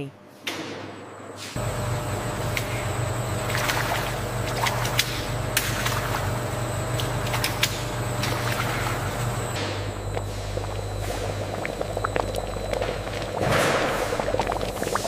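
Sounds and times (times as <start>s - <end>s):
low machine hum: 1.1s - 15.0s.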